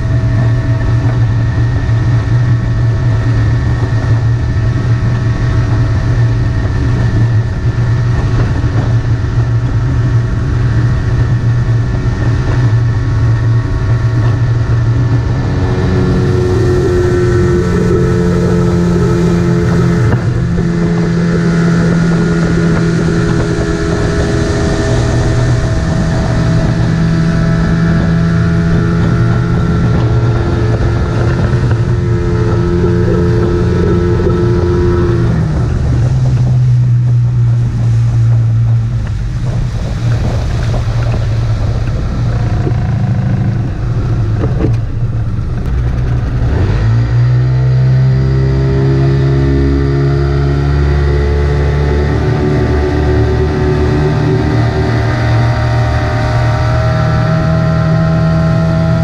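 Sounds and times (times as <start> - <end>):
outboard motor running: 0.0 - 59.0
water rushing past hull: 0.0 - 59.0
wind buffeting microphone: 0.0 - 59.0.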